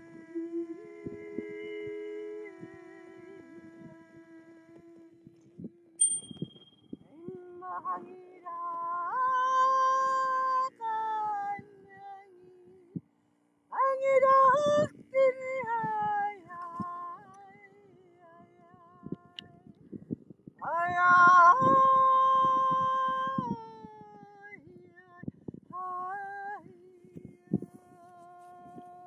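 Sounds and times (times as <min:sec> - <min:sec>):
person singing wordlessly: 0:00.0 - 0:06.0, 0:07.0 - 0:13.0, 0:13.7 - 0:19.7, 0:20.6 - 0:29.0.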